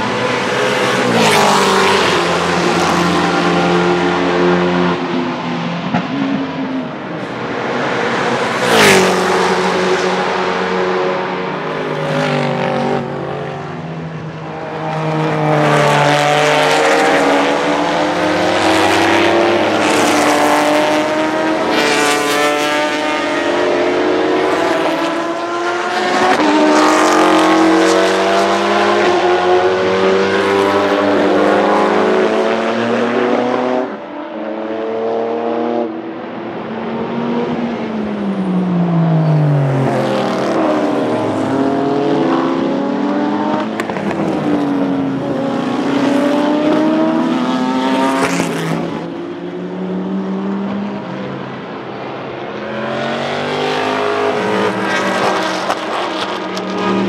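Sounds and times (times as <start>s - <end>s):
race cars accelerating and passing: 0.0s - 57.0s.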